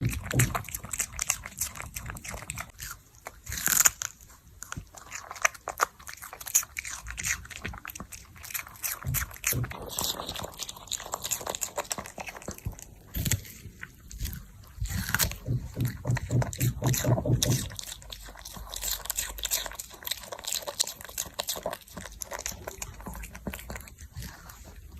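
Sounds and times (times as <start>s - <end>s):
dog crunching cucumber: 0.0s - 24.9s.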